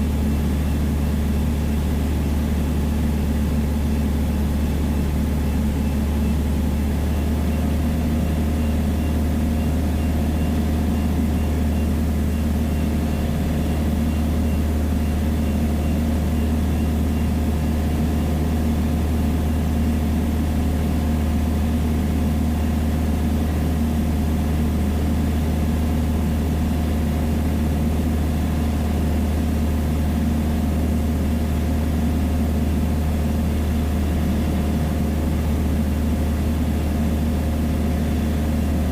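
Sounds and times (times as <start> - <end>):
aircraft engine droning in cabin: 0.0 - 38.9.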